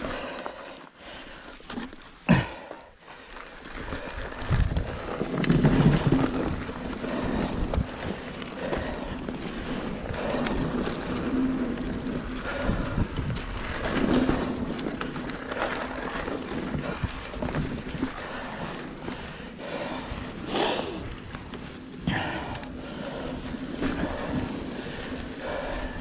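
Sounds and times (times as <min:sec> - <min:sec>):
bike knocking and rattling: 0:00.0 - 0:26.0
bike tyres on dirt: 0:00.0 - 0:26.0
wind buffeting microphone: 0:03.8 - 0:26.0.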